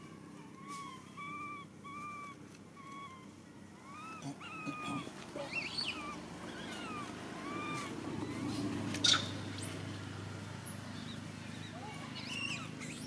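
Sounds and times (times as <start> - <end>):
baby monkey crying: 0.2 - 9.7, 11.0 - 13.0.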